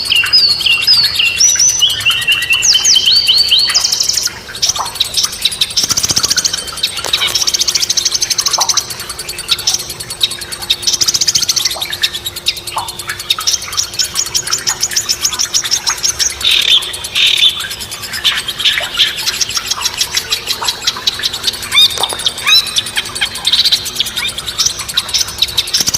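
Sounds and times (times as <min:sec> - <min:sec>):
birds singing and chirping: 0:00.0 - 0:25.9
faint steady hum: 0:00.0 - 0:25.9.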